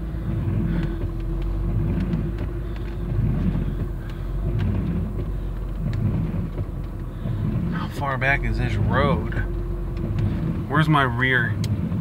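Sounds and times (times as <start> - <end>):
car engine rumble: 0.0 - 12.0
tyres on wet road: 0.0 - 12.0.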